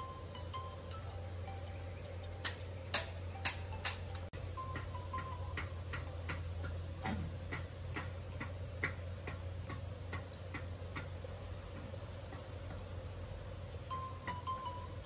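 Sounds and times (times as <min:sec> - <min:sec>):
regular ticking: 0:00.0 - 0:15.0
steady low hum: 0:00.0 - 0:15.0.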